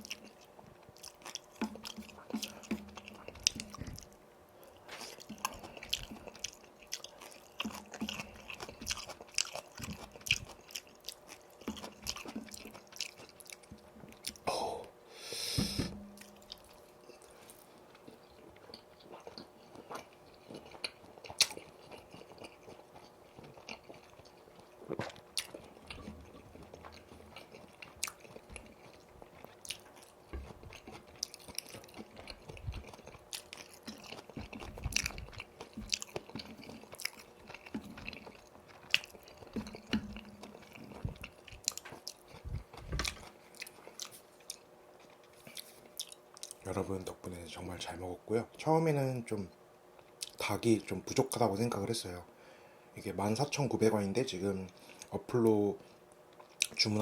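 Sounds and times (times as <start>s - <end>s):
chewing crunchy fried chicken: 0.0s - 14.5s, 16.1s - 48.0s, 49.9s - 52.3s, 53.0s - 57.0s.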